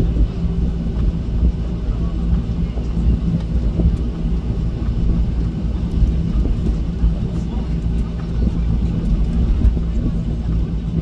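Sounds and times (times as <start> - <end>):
airliner cabin rumble: 0.0 - 11.0
low hum: 0.0 - 11.0.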